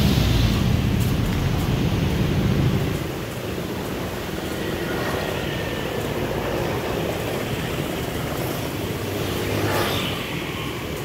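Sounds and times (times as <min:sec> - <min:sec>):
locomotive engine droning: 0:00.0 - 0:09.1.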